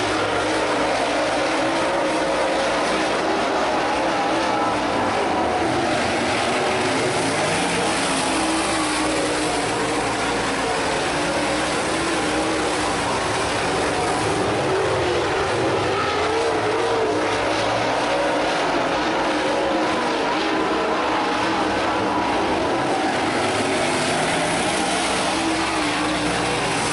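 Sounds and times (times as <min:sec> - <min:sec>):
race car engines roaring: 0:00.0 - 0:26.9.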